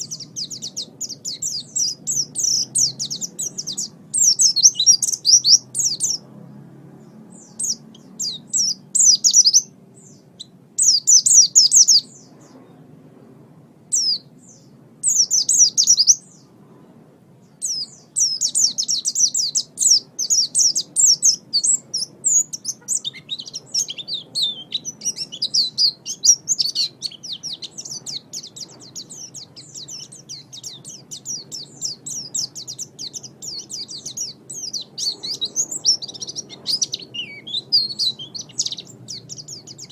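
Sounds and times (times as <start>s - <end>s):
bird twittering chirps: 0.0s - 6.3s, 7.0s - 12.8s, 13.9s - 16.6s, 17.4s - 39.9s
faint low hum: 0.0s - 39.9s.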